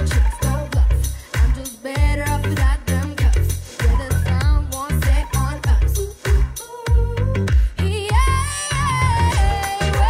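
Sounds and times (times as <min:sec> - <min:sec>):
kick drum beat: 0:00.0 - 0:08.5, 0:09.3 - 0:10.0
bass: 0:00.0 - 0:10.0
woman singing into a microphone: 0:00.0 - 0:10.0.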